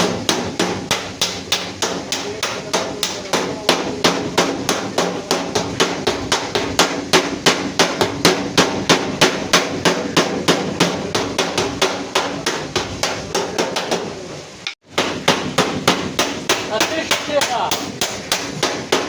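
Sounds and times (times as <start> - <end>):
hammer beating sheet metal: 0.0 - 19.0.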